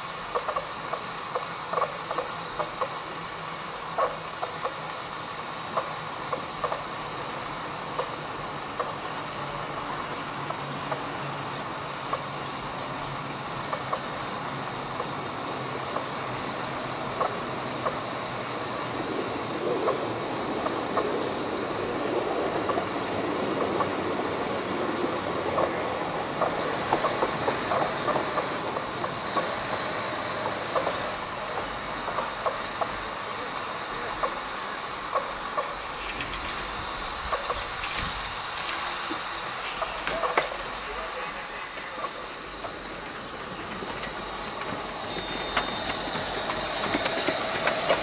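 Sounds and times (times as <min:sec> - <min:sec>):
steam hissing: 0:00.0 - 0:48.0
wheels clicking on track: 0:00.0 - 0:48.0.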